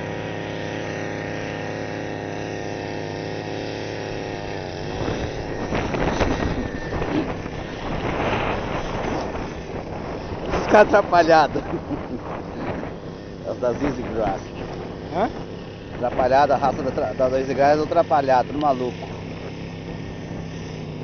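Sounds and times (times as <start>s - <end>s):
engine droning: 0.0s - 21.0s
rough uneven noise: 3.5s - 21.0s.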